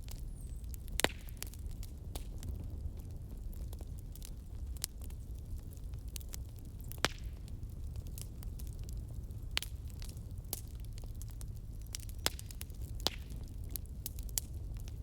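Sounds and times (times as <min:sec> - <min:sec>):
fire flame rumble: 0:00.0 - 0:15.0
logs crackling and popping: 0:00.0 - 0:15.0.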